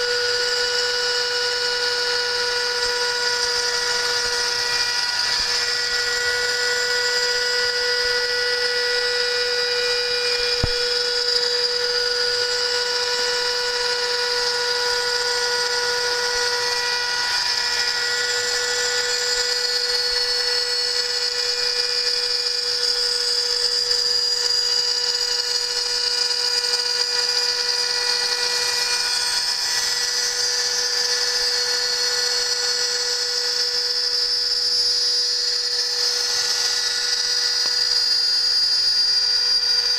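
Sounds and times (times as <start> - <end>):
hissing metal cutting noise: 0.0 - 39.9
router spindle whine: 0.0 - 39.9.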